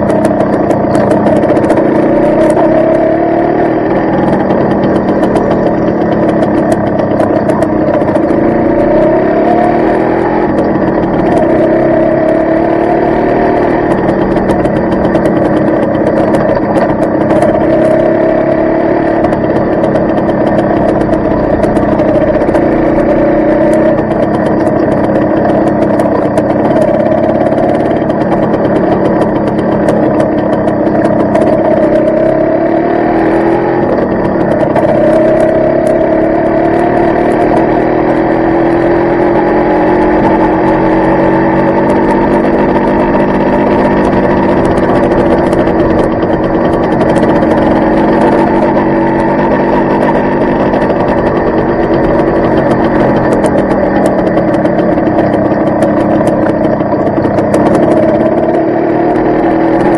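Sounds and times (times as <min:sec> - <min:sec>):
two-stroke motorcycle engine: 0:00.0 - 0:59.9.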